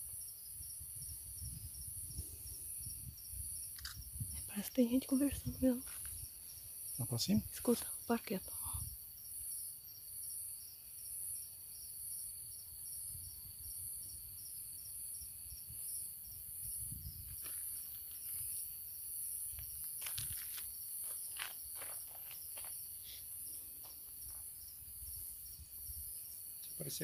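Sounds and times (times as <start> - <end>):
night insects chirping: 0.0 - 27.0.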